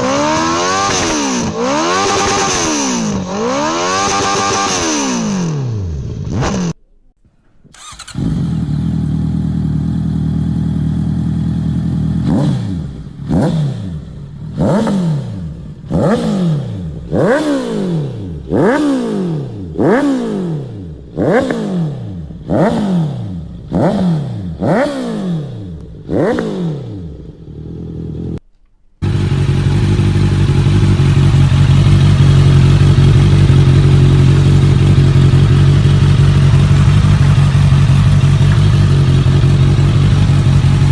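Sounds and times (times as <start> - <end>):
motorcycle engine revving: 0.0 - 6.8, 7.7 - 28.4, 29.0 - 40.9.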